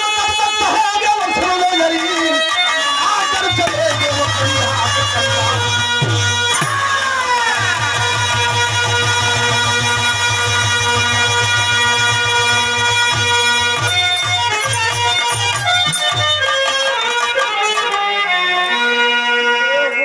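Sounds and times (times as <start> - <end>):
drum beating: 0.0 - 18.8
harmonium melody: 0.0 - 20.0.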